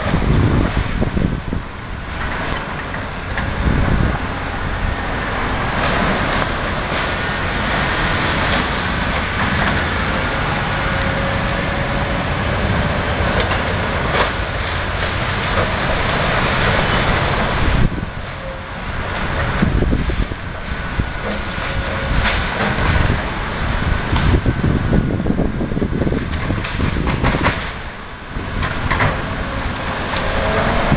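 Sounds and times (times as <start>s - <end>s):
demolition machine engine running: 0.0s - 30.9s.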